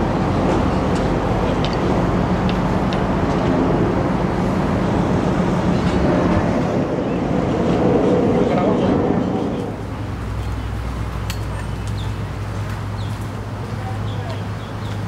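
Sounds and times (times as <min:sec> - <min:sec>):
engine running: 0:00.0 - 0:13.4.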